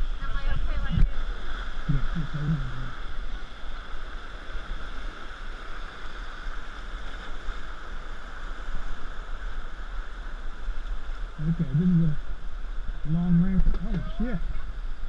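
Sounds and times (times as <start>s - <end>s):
whitewater rushing: 0.0s - 15.0s
wind rumble on microphone: 0.0s - 15.0s.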